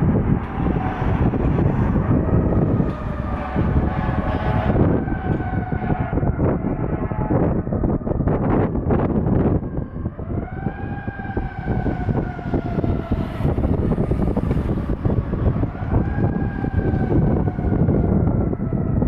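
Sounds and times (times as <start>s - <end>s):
fire truck siren wailing: 0.0s - 19.0s
heavy truck rumble: 0.0s - 19.0s.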